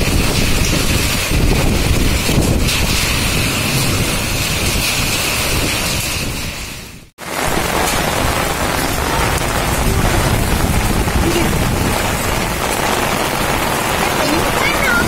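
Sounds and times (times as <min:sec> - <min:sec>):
heavy rain and hail pelting: 0:00.0 - 0:15.0
wind buffeting microphone: 0:00.0 - 0:15.0.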